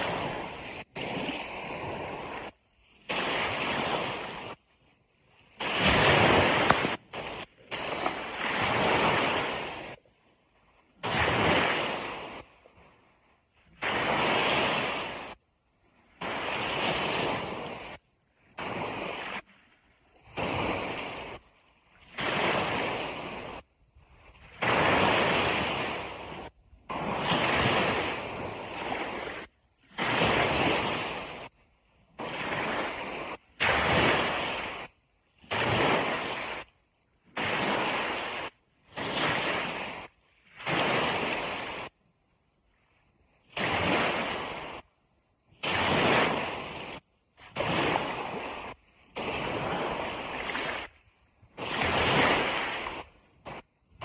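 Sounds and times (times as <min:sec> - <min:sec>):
surf washing on beach: 0:00.0 - 0:54.0.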